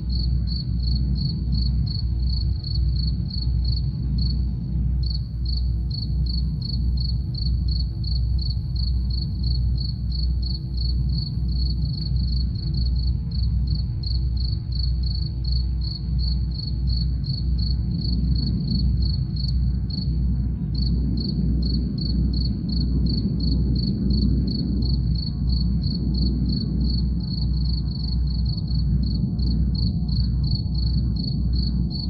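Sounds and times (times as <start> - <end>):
cricket chirping: 0.0 - 32.0.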